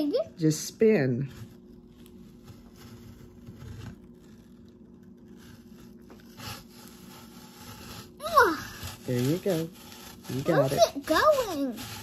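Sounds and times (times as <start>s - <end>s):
apple peeler blade scraping: 1.0s - 12.0s.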